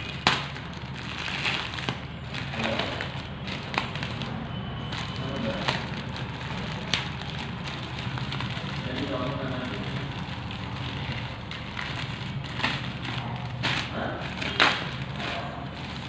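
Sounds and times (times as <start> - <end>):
plastic bag tearing: 0.0 - 16.0
plastic mailer bag crinkling: 0.0 - 16.0.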